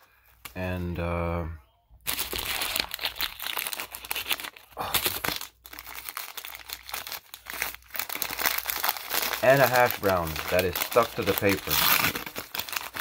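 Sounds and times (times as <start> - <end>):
paper wrapper crinkling and tearing: 2.0 - 13.0.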